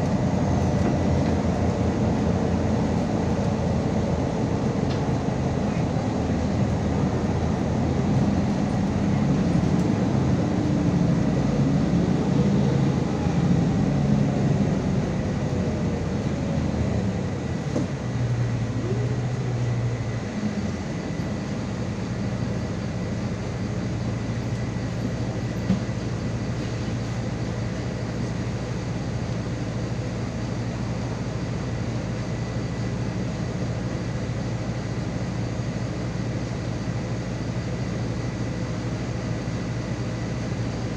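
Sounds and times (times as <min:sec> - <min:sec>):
road noise: 0:00.0 - 0:34.2
bus engine: 0:00.0 - 0:40.9.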